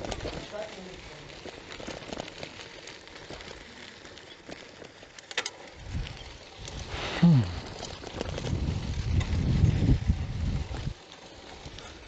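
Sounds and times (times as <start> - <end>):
bicycle tyres on dirt road: 0.0 - 12.0
bike rattles and clicks: 0.0 - 12.0.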